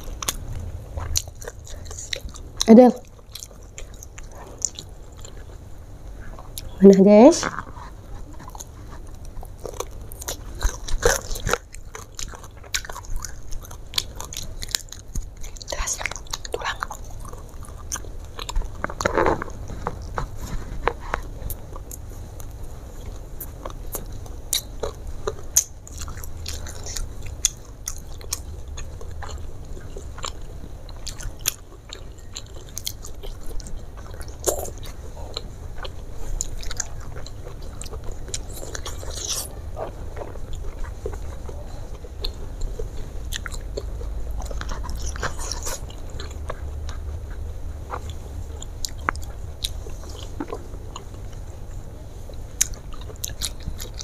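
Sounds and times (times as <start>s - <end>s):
crunchy chewing: 0.0s - 6.8s, 7.4s - 54.0s
steady low hum: 0.0s - 54.0s.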